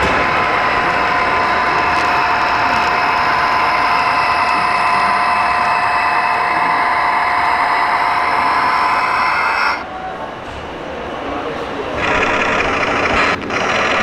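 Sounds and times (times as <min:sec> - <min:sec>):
hiss: 0:00.0 - 0:09.8, 0:12.0 - 0:14.0
mechanical whine: 0:00.0 - 0:10.7, 0:11.4 - 0:14.0.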